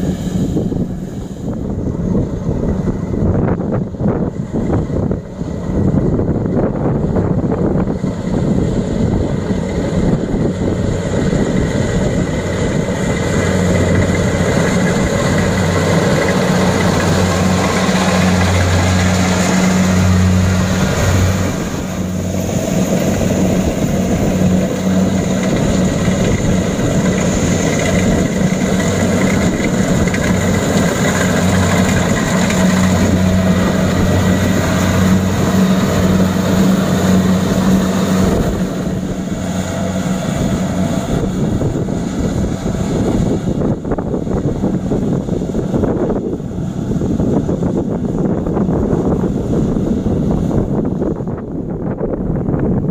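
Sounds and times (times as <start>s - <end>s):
combine harvesters running: 0.0s - 52.9s.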